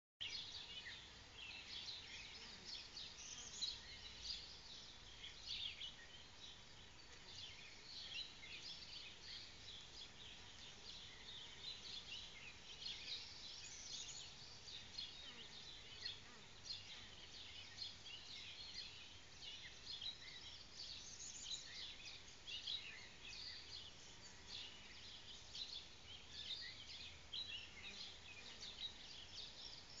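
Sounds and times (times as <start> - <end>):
birds chirping and singing: 0.2 - 30.0
faint outdoor background noise: 0.2 - 30.0.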